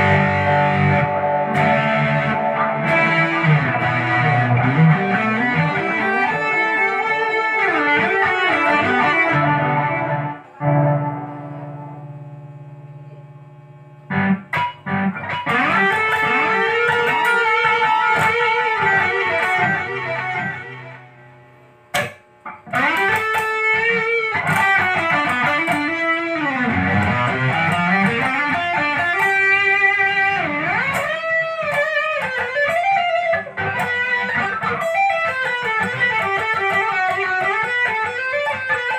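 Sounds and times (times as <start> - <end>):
electric guitar lead with bends: 0.0 - 38.9
guitar chord ringing: 0.0 - 38.9.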